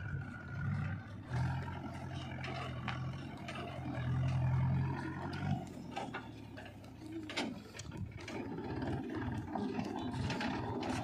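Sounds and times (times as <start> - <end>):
tractor diesel engine running: 0.0 - 11.0
knocks and rattles: 1.4 - 11.0.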